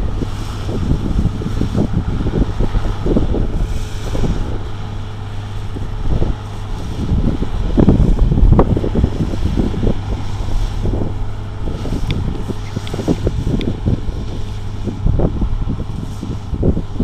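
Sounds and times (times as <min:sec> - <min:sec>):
combine harvester droning: 0:00.0 - 0:17.0
wind buffeting microphone: 0:00.0 - 0:17.0.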